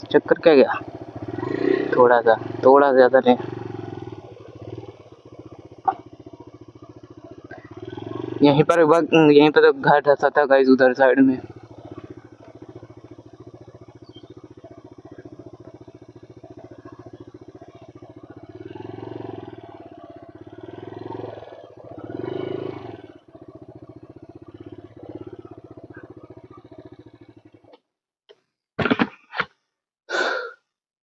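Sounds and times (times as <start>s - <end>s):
motorcycle engine revving: 0.0s - 27.8s.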